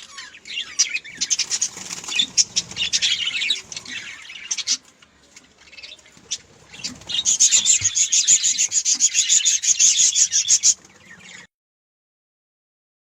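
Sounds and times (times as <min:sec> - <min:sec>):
budgerigars chirping: 0:00.0 - 0:11.5.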